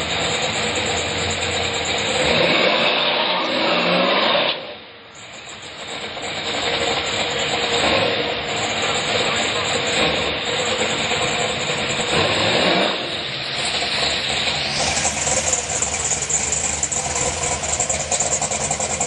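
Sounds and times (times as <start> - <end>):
drag car engine revving: 0.0 - 19.0.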